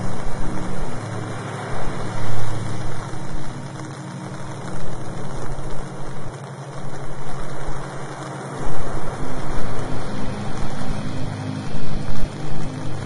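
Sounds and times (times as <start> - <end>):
low sustained drone: 0.0 - 13.0
rushing water-like noise: 0.0 - 13.0.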